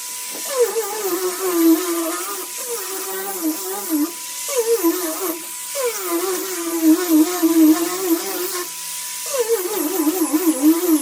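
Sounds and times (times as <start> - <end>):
orbital sander buzzing on wood: 0.0 - 11.0.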